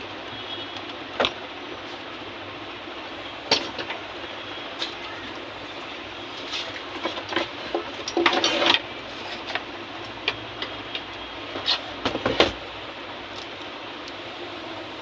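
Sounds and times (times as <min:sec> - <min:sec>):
steady hiss: 0:01.7 - 0:15.0.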